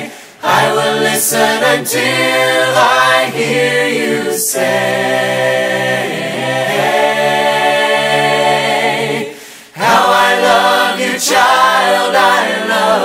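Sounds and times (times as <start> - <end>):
a cappella voices singing: 0.0 - 13.0.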